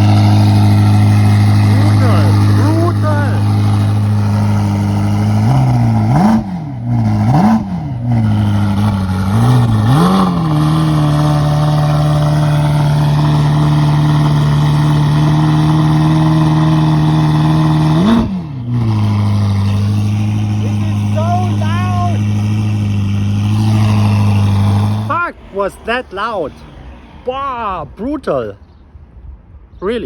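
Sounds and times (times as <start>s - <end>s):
car engine revving: 0.0s - 28.2s
car engine idling: 0.0s - 28.7s.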